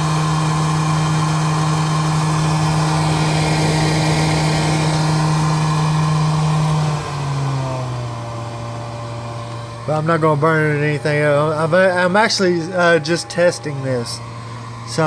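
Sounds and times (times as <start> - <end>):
electric fans humming: 0.0 - 15.0.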